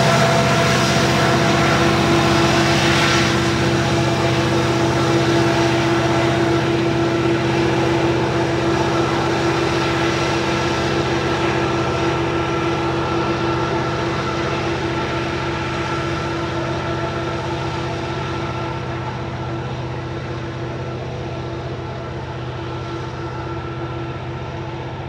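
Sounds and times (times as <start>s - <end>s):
diesel locomotives working hard: 0.0s - 25.0s.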